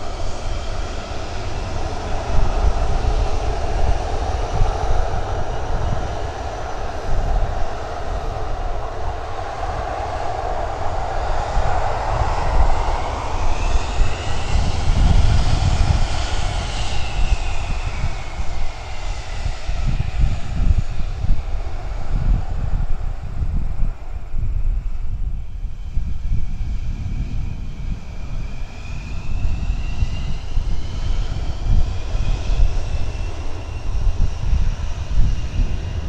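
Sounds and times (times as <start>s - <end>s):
jet engine whine: 0.0s - 36.0s
loud jet engine roar: 0.0s - 36.0s.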